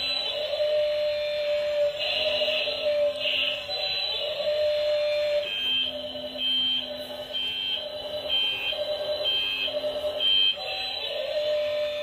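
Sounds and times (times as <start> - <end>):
two-tone electronic beeping: 0.0 - 12.0.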